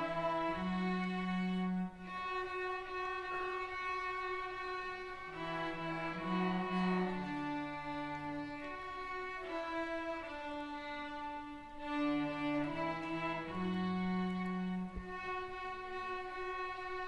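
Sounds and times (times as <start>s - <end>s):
string ensemble playing: 0.0s - 17.0s.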